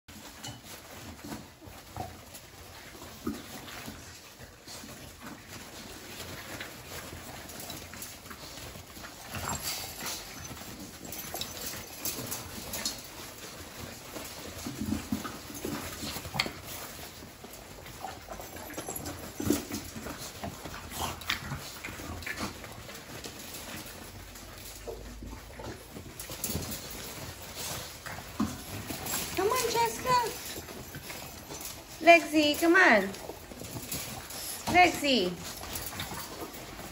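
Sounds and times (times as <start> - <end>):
paw scratching and rustling: 0.1 - 36.9.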